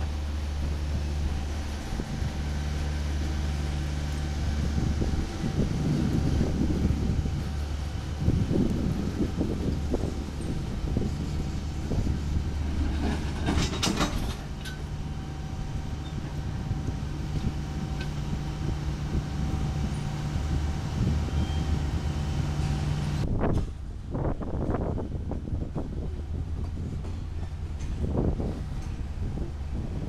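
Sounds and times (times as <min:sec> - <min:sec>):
freight cars rolling on rails: 0:00.0 - 0:30.0.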